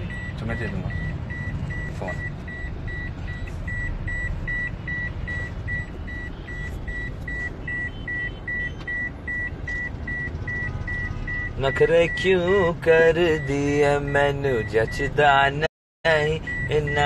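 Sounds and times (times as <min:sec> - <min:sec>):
car warning beeps: 0:00.0 - 0:17.0.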